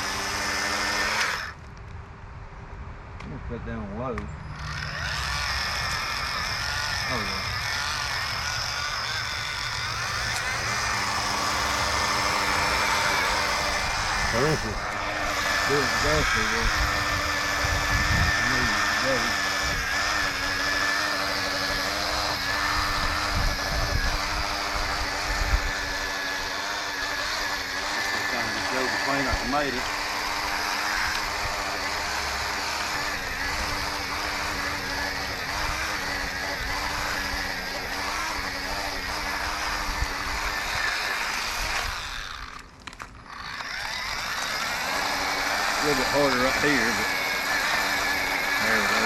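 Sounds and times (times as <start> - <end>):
electric motor whining: 0.0 - 1.7, 4.4 - 49.0
tines churning soil: 0.0 - 1.7, 4.5 - 49.0.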